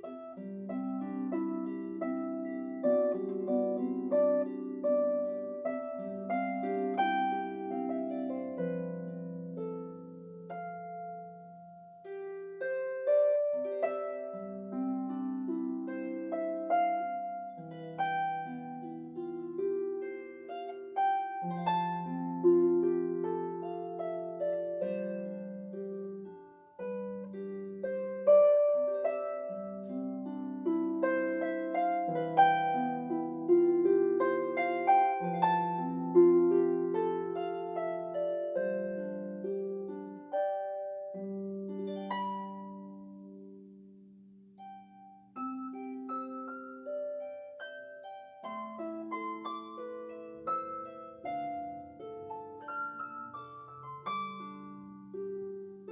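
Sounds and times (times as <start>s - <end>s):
harp melody: 0.0s - 55.9s.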